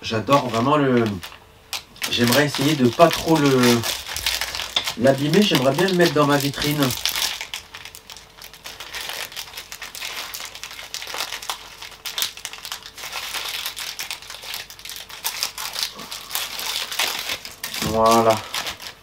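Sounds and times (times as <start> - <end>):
plastic wrapper crinkling: 0.1 - 19.0.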